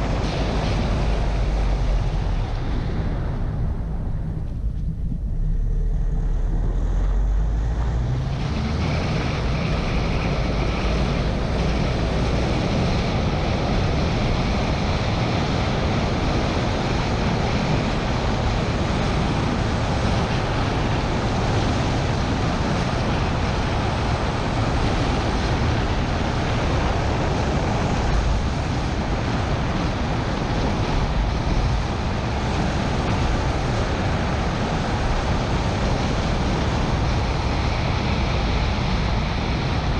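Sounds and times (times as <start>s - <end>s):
engine and tyres rumbling: 0.0s - 39.9s
wind buffeting microphone: 0.0s - 39.9s.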